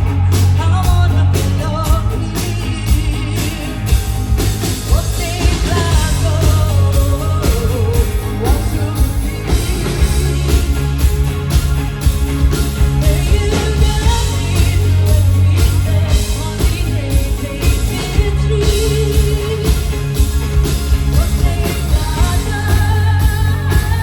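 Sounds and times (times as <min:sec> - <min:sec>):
person singing: 0:00.0 - 0:11.7, 0:12.7 - 0:24.0
heavy bass: 0:00.0 - 0:24.0
rock band playing live: 0:00.0 - 0:24.0
steady drum beat: 0:00.0 - 0:24.0.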